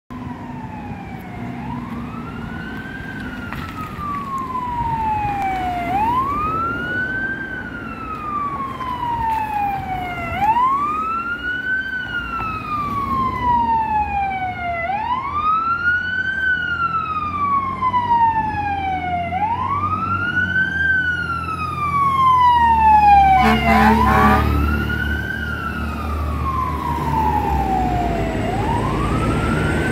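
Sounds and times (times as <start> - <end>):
fire truck siren wailing: 0.1 - 29.9
low road rumble: 0.1 - 29.9.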